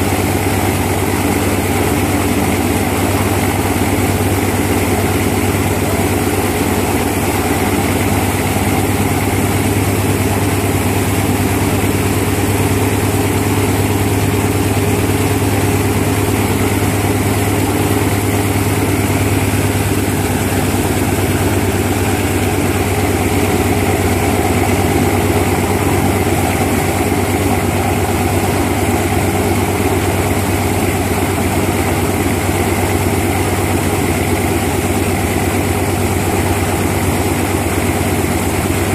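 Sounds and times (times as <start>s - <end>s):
propeller plane engine idling: 0.0s - 38.9s.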